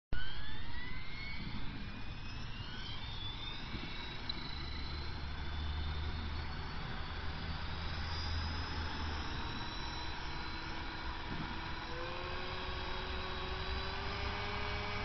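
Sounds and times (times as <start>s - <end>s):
rc helicopter motor whine: 0.2s - 15.0s.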